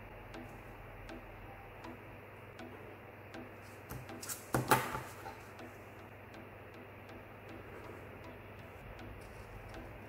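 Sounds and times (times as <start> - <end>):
faint ticking: 0.0 - 10.0.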